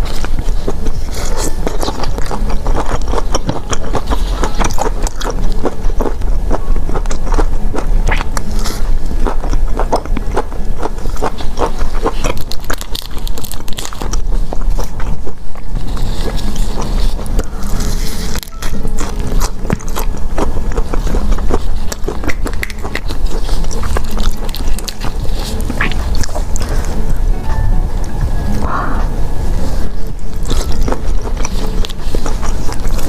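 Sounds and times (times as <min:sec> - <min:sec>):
chewing and biting food: 0:00.0 - 0:27.4, 0:28.5 - 0:33.0.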